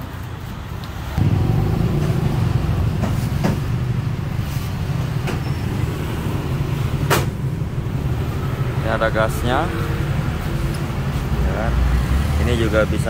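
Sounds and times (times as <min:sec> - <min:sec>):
low engine rumble: 0:00.4 - 0:11.8.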